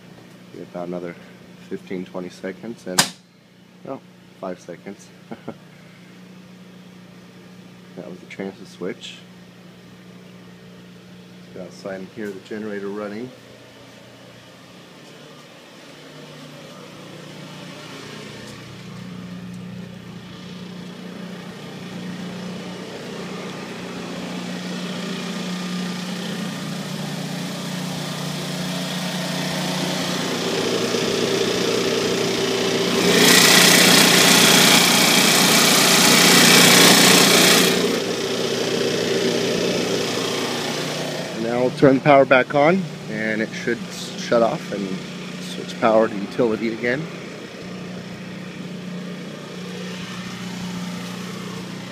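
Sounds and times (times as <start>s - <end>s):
generator engine hum: 0.0s - 51.9s.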